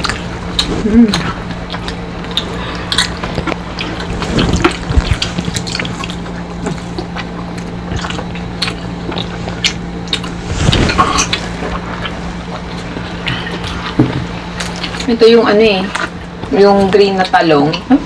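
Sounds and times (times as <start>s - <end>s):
wet chewing and lip smacks: 0.0s - 16.6s
steady low hum: 0.0s - 18.0s.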